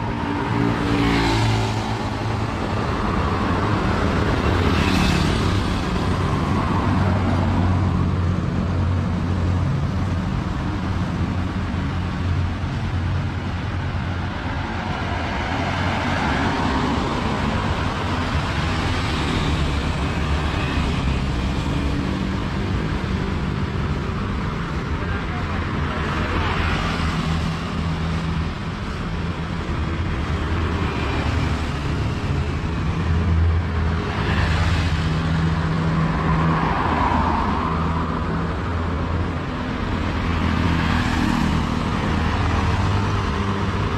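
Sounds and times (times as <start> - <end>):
cars and scooters passing: 0.0 - 43.9.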